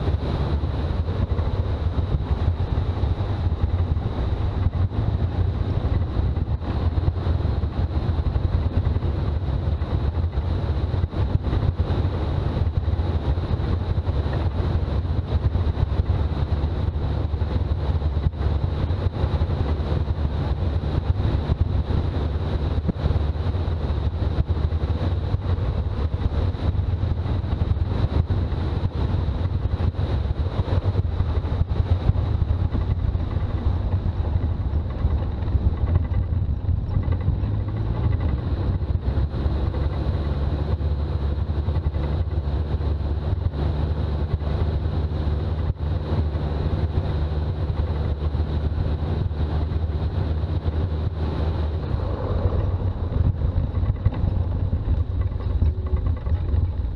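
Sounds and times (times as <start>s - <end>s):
diesel engine droning: 0.0s - 56.9s.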